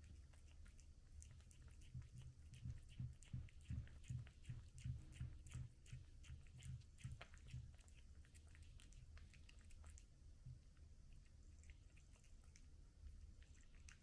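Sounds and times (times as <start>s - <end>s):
cat chewing food: 0.0s - 14.0s.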